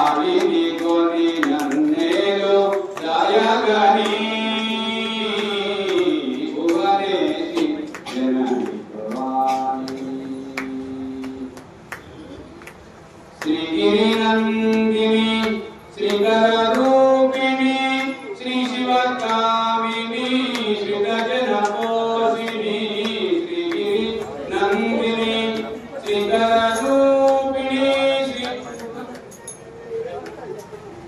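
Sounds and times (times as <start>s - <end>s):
devotional chanting: 0.0s - 29.6s.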